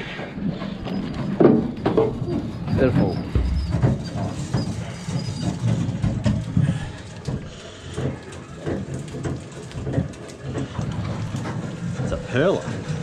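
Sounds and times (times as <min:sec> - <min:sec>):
knocks and rustles of fish: 0:00.0 - 0:13.0.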